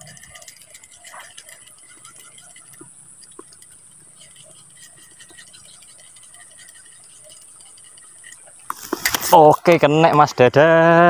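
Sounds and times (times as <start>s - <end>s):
fishing reel clicking: 0.0s - 9.6s
steady high hiss: 0.0s - 11.0s.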